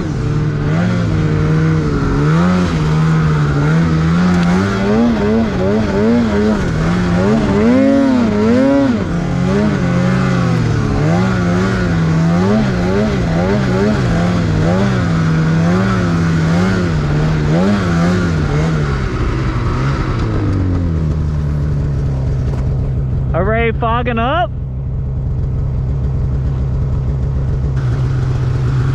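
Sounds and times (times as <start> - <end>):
snowmobile engine revving: 0.0 - 22.5, 27.2 - 28.9.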